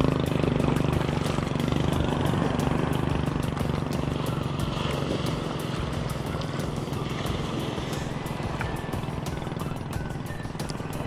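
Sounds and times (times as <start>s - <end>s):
boat engine idling: 0.0s - 11.0s
fast regular ticking: 0.0s - 11.0s.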